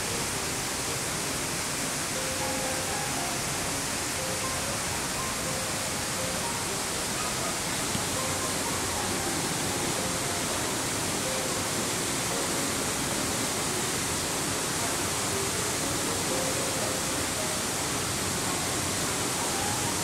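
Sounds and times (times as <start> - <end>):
small waterfall rushing: 0.0 - 20.0.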